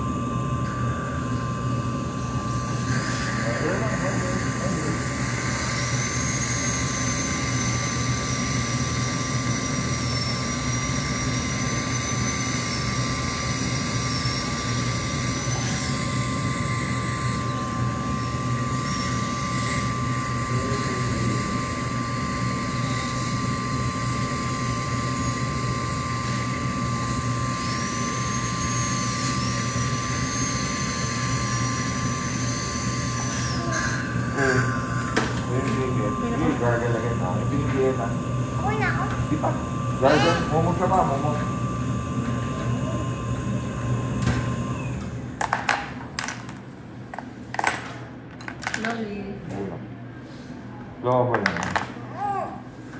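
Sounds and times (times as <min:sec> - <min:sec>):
dental drill whining: 0:00.0 - 0:47.3
dental suction roar and hiss: 0:02.1 - 0:45.0.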